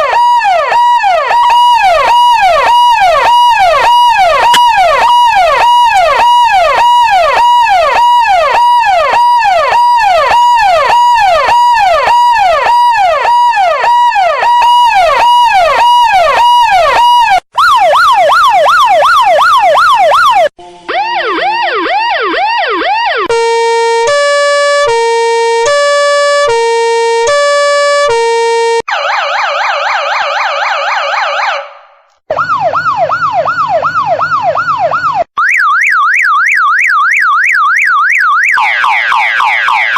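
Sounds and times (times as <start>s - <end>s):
two-tone siren: 0.0s - 39.9s
warbling siren: 0.0s - 39.9s
yelp siren: 0.0s - 39.9s.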